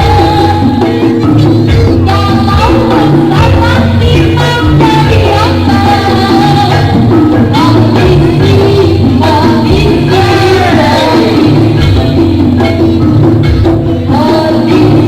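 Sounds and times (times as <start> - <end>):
gamelan ensemble playing: 0.0 - 15.0
pitch-bending melody line: 0.0 - 15.0.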